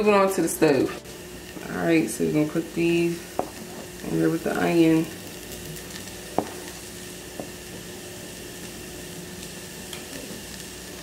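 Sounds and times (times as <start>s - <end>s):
onions sizzling in a pan: 0.0s - 11.0s.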